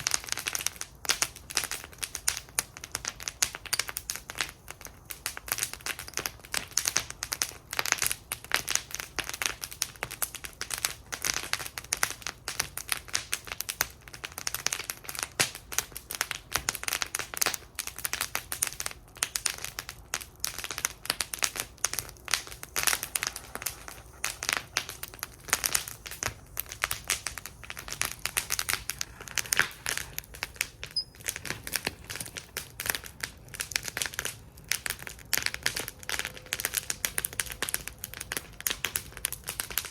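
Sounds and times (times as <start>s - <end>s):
low steady fire hiss: 0.0s - 39.9s
wood fire crackling and popping: 0.0s - 39.9s.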